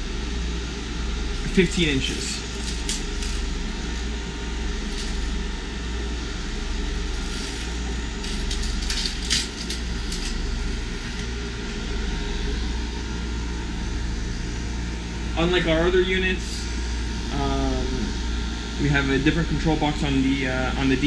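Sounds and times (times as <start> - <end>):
heat pump compressor and fan drone: 0.0 - 21.0.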